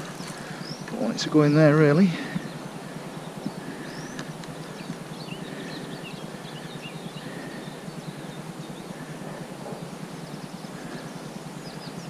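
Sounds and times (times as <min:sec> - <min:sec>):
low rushing background: 0:00.0 - 0:12.0
small birds chirping: 0:00.0 - 0:12.0.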